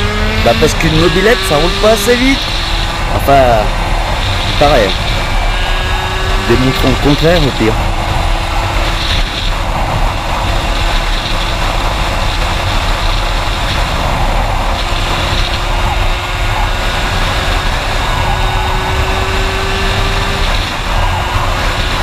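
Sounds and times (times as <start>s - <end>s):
two-stroke engine running hard: 0.0s - 22.0s
wind noise on microphone: 0.0s - 22.0s.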